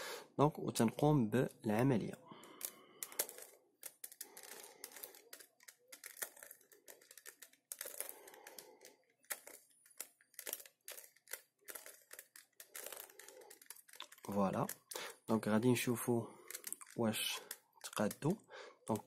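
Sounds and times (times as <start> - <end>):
puzzle cube clicking and rattling: 0.9 - 19.0.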